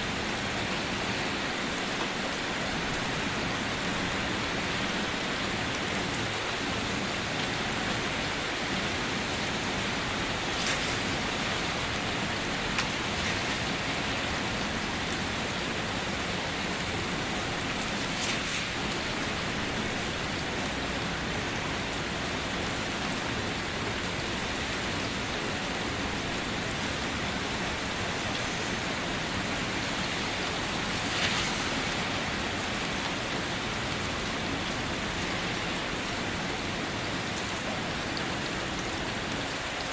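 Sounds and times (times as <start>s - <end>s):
steady rain: 0.0s - 39.9s
close raindrops landing: 0.1s - 39.9s.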